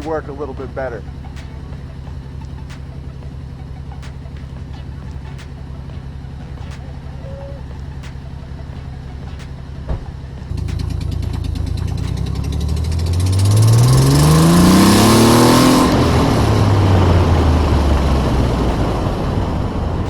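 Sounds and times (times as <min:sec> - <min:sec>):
car engine accelerating: 0:00.0 - 0:20.0
road and wind noise: 0:00.0 - 0:20.0.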